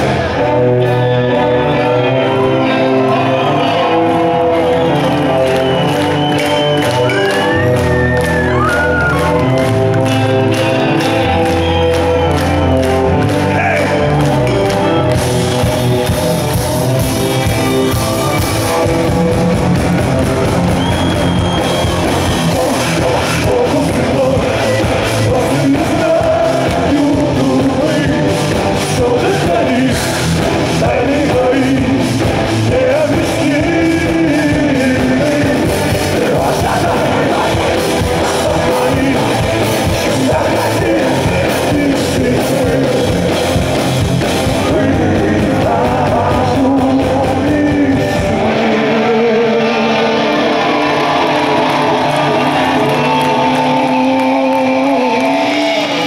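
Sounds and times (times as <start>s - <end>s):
man singing: 0.0s - 15.1s, 20.8s - 56.0s
bass guitar: 0.0s - 56.0s
drums: 0.0s - 56.0s
electric guitars: 0.0s - 56.0s.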